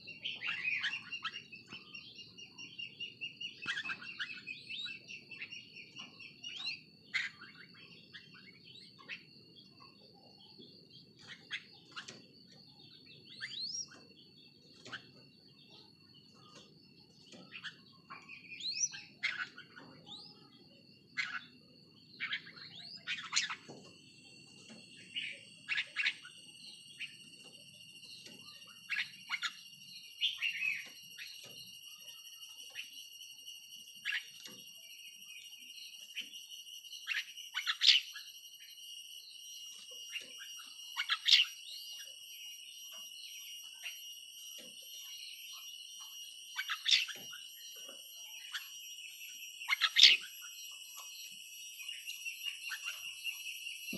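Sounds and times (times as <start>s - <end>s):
bird whistled chirps: 0.0s - 53.9s.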